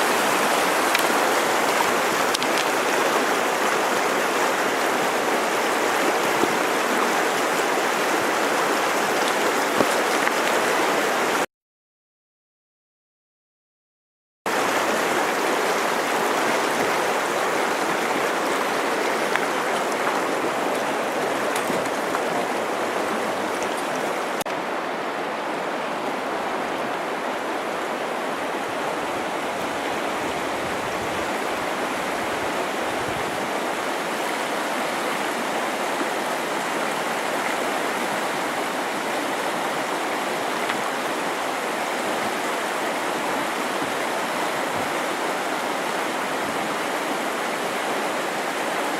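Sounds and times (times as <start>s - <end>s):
river water rushing: 0.0s - 11.5s, 14.5s - 48.9s.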